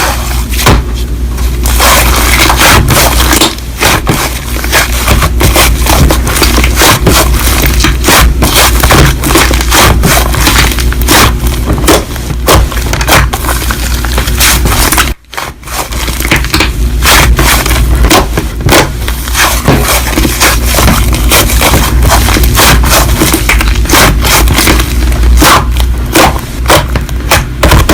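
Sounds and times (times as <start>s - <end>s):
crunchy slime crackling: 0.0s - 27.9s.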